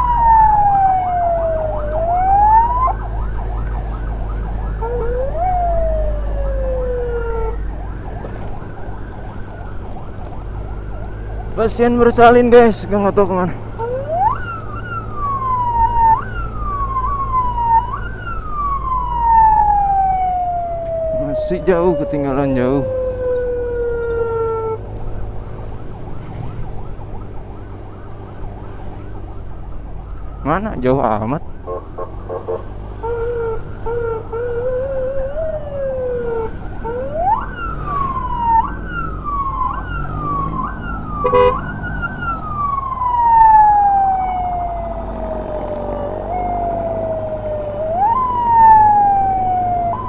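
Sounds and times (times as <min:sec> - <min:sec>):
siren tone sliding down: 0:00.0 - 0:25.3, 0:33.0 - 0:50.0
emergency siren yelping: 0:00.0 - 0:50.0
motorcycle riding rumble: 0:00.0 - 0:50.0.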